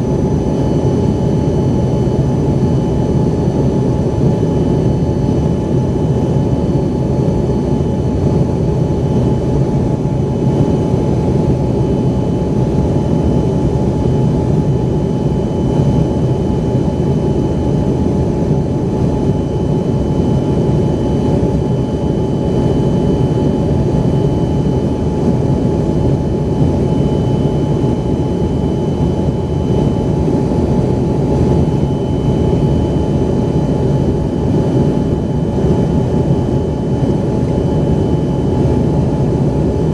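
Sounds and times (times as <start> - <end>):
aircraft cabin noise: 0.0 - 39.9
thin fan whine: 0.0 - 39.9.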